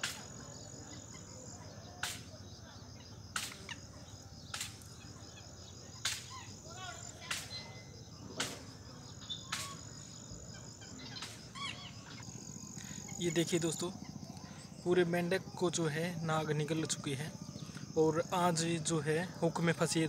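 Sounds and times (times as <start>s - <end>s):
insect trill: 0.0s - 20.0s
faint bird chirps: 0.3s - 19.5s.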